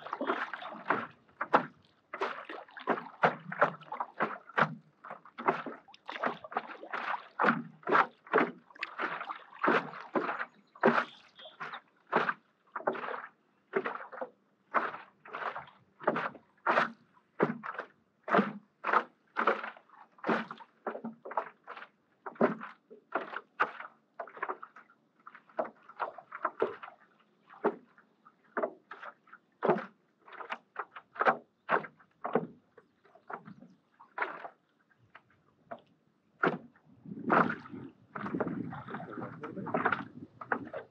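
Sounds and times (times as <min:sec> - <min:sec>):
paddle splashes: 0:00.0 - 0:40.9
water sloshing around paddleboard: 0:00.0 - 0:40.9.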